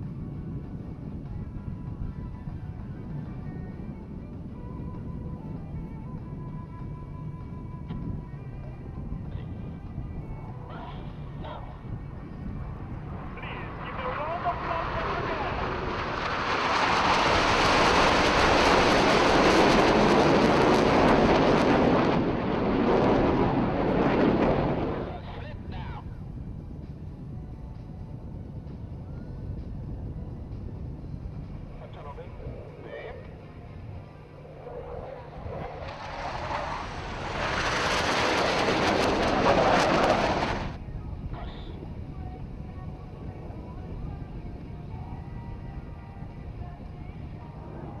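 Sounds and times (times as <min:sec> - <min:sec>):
jet aircraft roar: 0:00.0 - 0:48.0.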